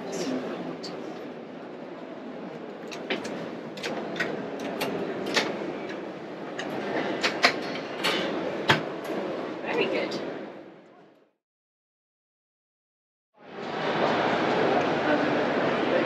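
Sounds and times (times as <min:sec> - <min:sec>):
steady background noise: 0:00.0 - 0:11.2, 0:13.4 - 0:16.0.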